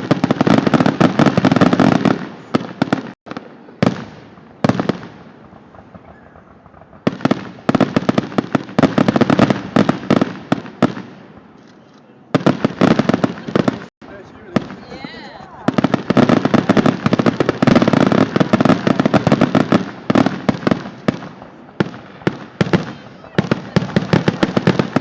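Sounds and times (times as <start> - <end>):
fireworks crackling volleys: 0.0 - 25.0.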